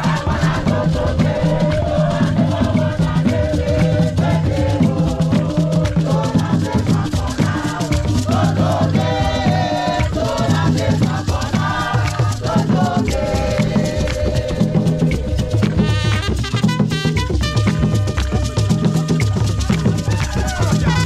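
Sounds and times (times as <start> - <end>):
chorus singing: 0.0 - 16.8, 19.1 - 21.0
hand drums playing fast rhythm: 0.0 - 21.0
people clapping: 0.0 - 21.0.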